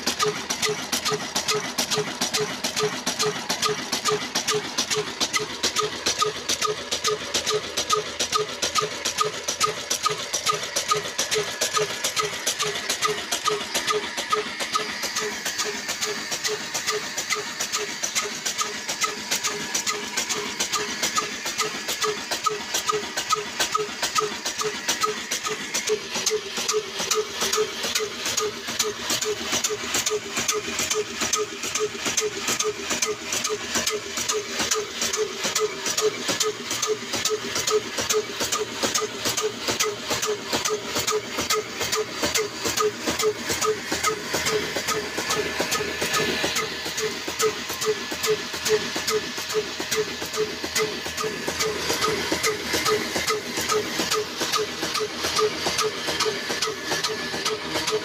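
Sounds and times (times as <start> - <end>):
diesel engine running: 0.0 - 58.0
mill grinding grain: 0.0 - 58.0.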